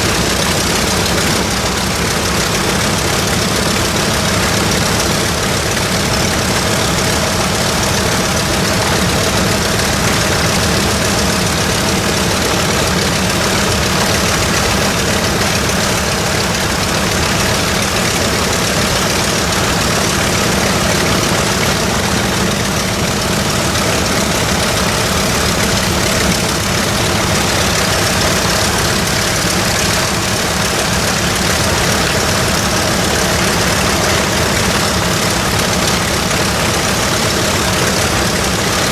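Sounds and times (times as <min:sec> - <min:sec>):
radial aircraft engine running: 0:00.0 - 0:38.9.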